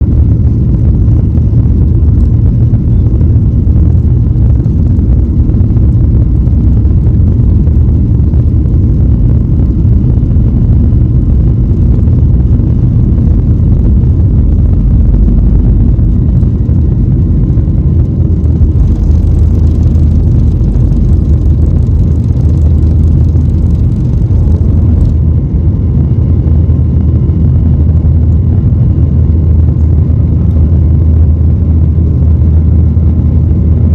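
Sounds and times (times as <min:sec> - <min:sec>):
jet engines rumbling on takeoff: 0:00.0 - 0:33.9.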